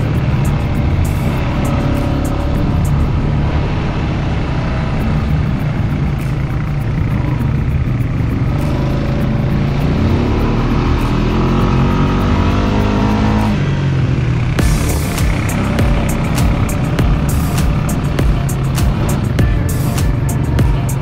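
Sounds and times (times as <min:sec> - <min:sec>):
atv engine accelerating: 0:00.0 - 0:21.0.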